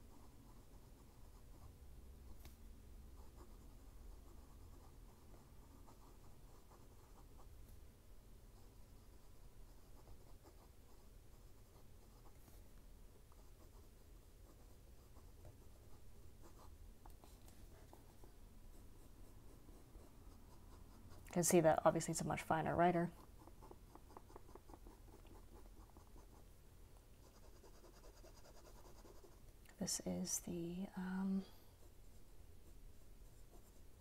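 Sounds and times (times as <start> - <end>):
fountain pen scratching on paper: 0.0 - 2.6, 3.2 - 7.6, 8.5 - 26.5, 27.2 - 30.0, 31.8 - 34.0.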